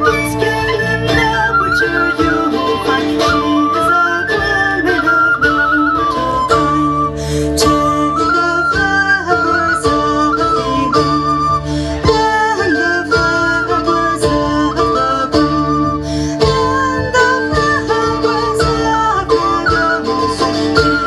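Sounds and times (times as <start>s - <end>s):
electric bass guitar: 0.0s - 21.0s
plucked mandolin: 0.0s - 21.0s
whistle-like wind melody: 0.0s - 21.0s.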